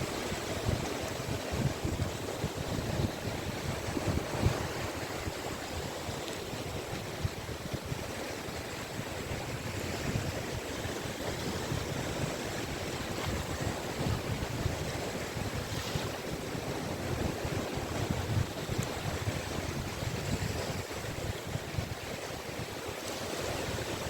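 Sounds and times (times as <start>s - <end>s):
waves breaking on a beach: 0.0s - 24.0s
wind buffeting microphone: 0.0s - 24.0s.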